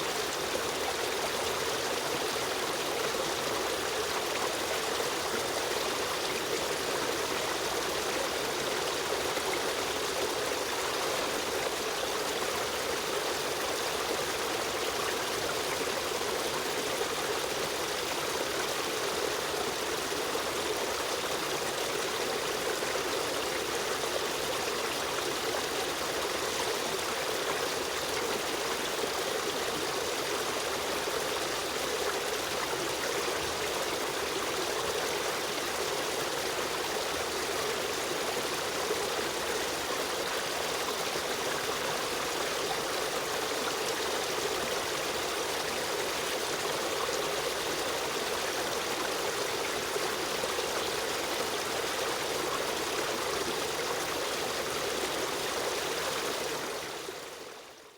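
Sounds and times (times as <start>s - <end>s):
river stream running: 0.0s - 57.9s.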